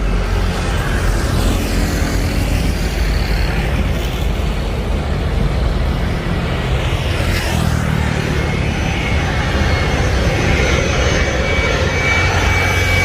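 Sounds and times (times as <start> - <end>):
high jet engine whine: 0.0 - 13.0
jet engines rumbling: 0.0 - 13.0.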